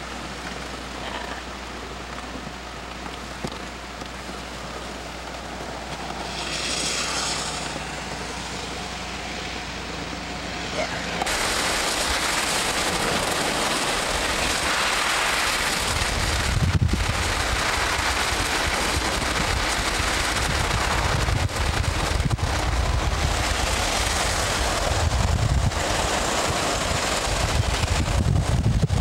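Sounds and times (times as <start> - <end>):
low buffeting rumble: 0.0 - 29.0
wind and road noise: 0.0 - 29.0.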